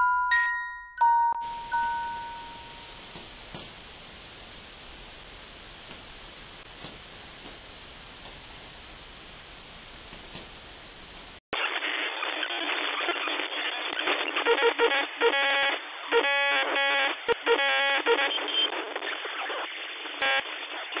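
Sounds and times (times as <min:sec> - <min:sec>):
crackling radio static: 0:03.2 - 0:21.0.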